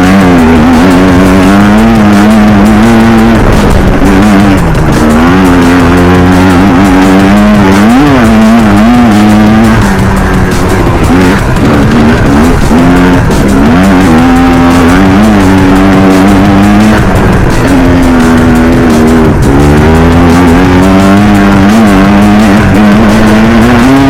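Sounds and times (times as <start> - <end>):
electronic music with wobbling synth: 0.0 - 24.0.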